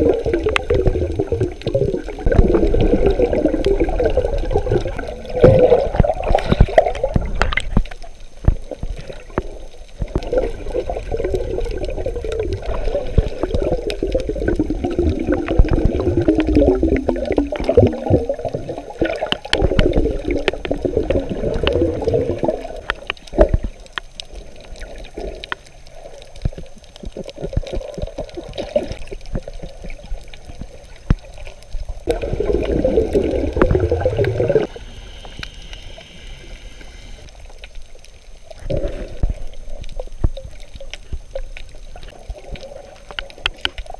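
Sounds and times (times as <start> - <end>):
sharp underwater clicks: 0.0 - 36.1, 36.8 - 43.9
muffled underwater rushing water: 0.0 - 43.9.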